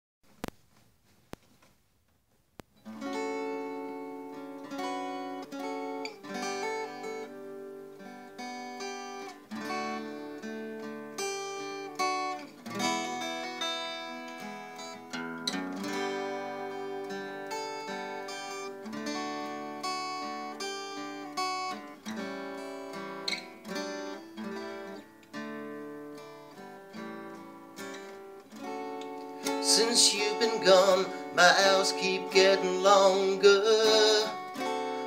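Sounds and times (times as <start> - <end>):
acoustic guitar playing: 2.7 - 35.0.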